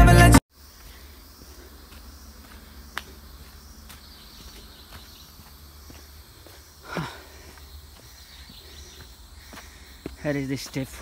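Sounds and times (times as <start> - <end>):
insects humming: 0.5 - 11.0
footsteps on dry leaves: 0.6 - 11.0.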